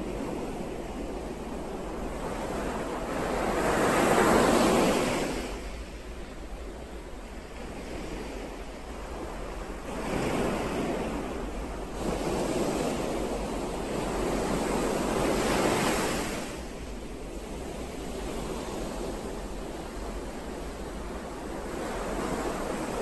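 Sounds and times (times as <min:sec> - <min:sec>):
ocean waves washing in: 0:00.0 - 0:23.0.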